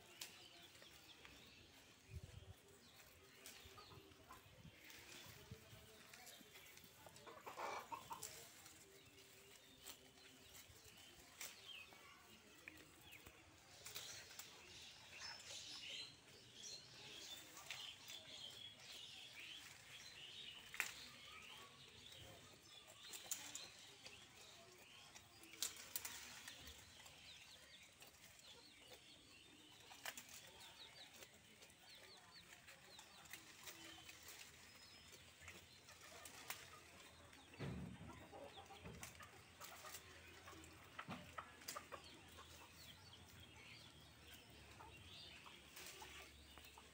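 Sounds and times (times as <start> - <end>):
chickens clucking: 0.0 - 46.9
goats chewing foliage: 0.0 - 46.9.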